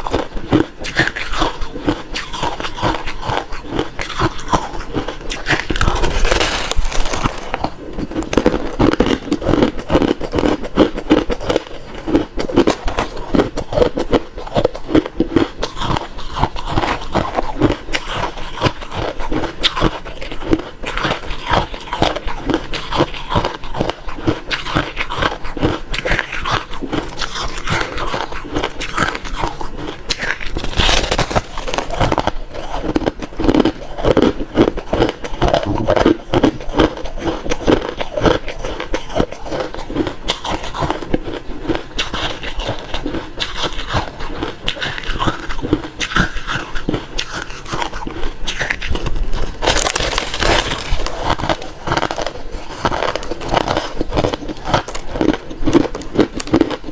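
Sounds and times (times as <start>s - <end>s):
chewing crushed ice: 0.0s - 56.9s.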